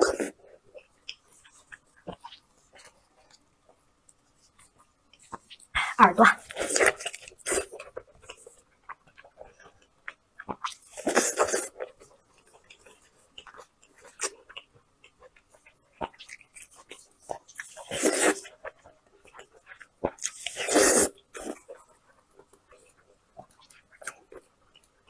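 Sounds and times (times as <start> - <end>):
person chewing with wet clicks: 0.1 - 5.8, 6.4 - 25.0.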